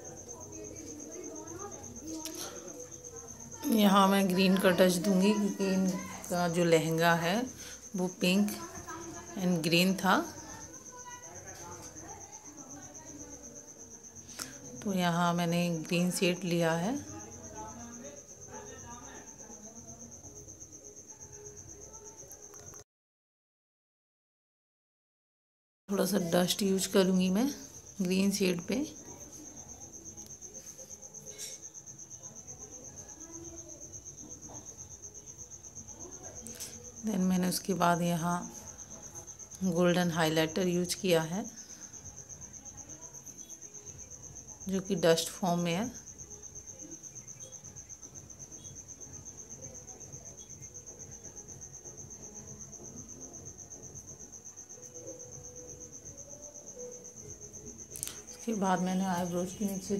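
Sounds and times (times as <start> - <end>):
faint room noise: 0.0 - 22.8, 25.9 - 59.9.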